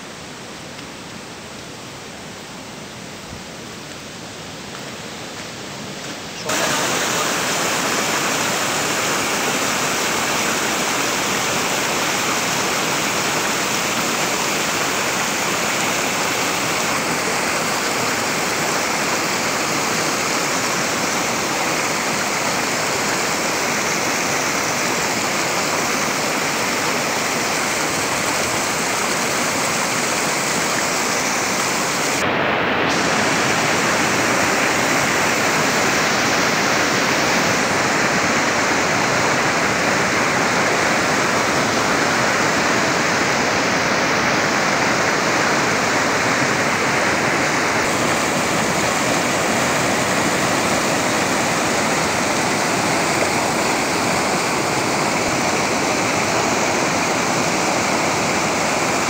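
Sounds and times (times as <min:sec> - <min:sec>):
river rushing over a weir: 0:00.0 - 0:59.0
small waterfall splashing: 0:02.2 - 0:59.0.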